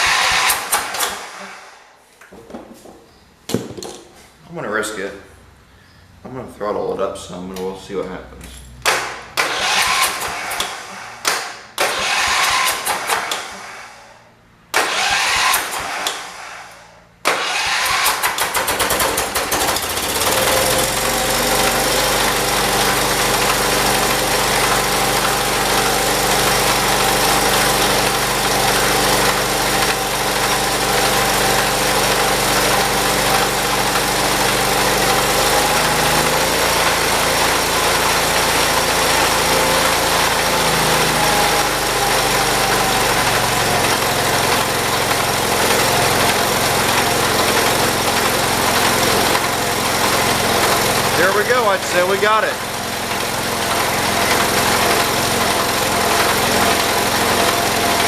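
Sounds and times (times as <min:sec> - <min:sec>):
tractor engine starting and running: 0:00.0 - 0:01.6, 0:08.9 - 0:58.0.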